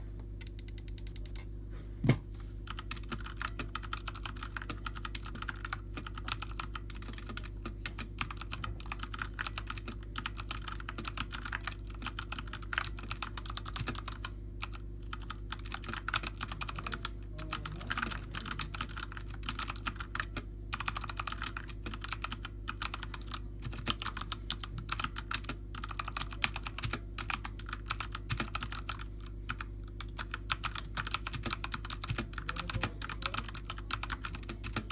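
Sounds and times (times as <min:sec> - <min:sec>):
steady low hum: 0:00.0 - 0:34.9
mechanical keyboard typing: 0:00.4 - 0:01.5, 0:02.7 - 0:34.9.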